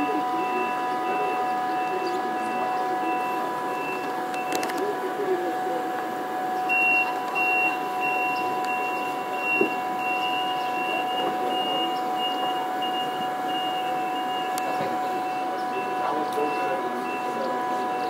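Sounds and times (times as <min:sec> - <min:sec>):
high electronic beep: 0:00.0 - 0:05.6, 0:06.5 - 0:18.0
railcar drive whine: 0:00.0 - 0:18.0.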